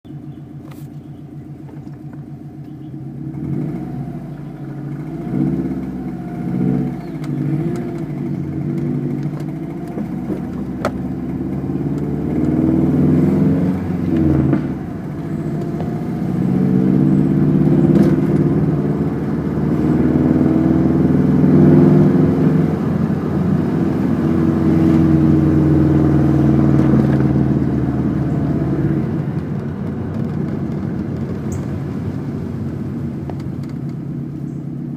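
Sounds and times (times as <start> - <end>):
engine tapping: 0.0 - 21.4, 22.4 - 34.9
car engine running: 0.0 - 34.9.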